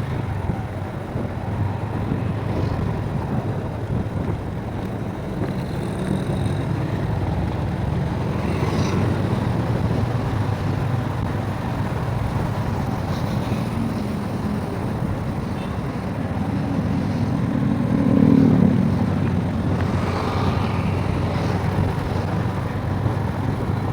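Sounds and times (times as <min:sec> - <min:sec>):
road and wind noise: 0:00.0 - 0:23.9
vehicle driving drone: 0:00.0 - 0:23.9.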